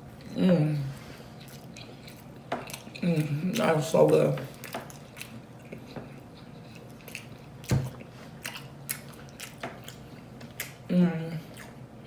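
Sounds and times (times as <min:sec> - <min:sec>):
wet chewing and lip-smacking: 0:01.2 - 0:12.0.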